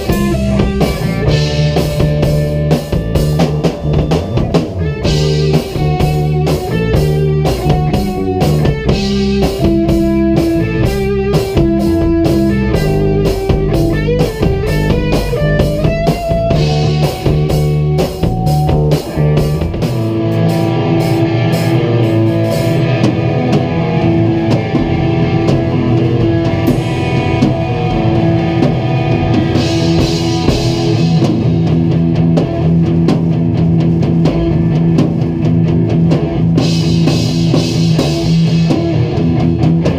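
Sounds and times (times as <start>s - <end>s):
bass guitar: 0.0s - 39.9s
drum kit playing: 0.0s - 39.9s
electric guitar playing: 0.0s - 39.9s.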